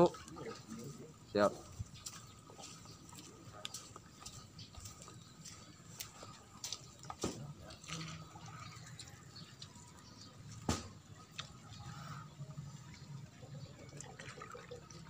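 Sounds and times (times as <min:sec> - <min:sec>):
water dripping and trickling: 0:00.0 - 0:15.0.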